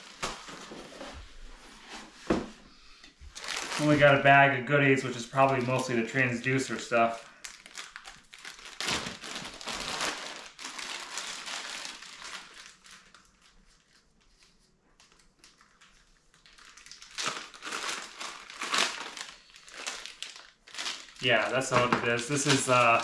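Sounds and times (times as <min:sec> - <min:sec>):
plastic bags crinkling: 0:03.3 - 0:23.0.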